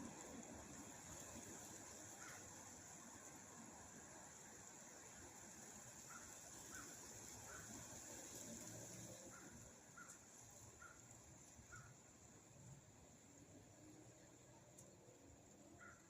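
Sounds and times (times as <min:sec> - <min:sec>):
steady hiss: 0:00.0 - 0:15.8.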